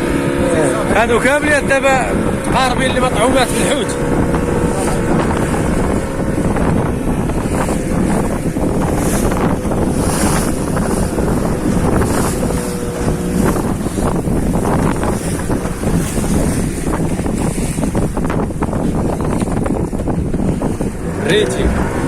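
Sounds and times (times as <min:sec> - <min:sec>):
boat engine running: 0:00.0 - 0:22.0
sea washing against hull: 0:00.0 - 0:22.0
wind buffeting microphone: 0:00.0 - 0:22.0.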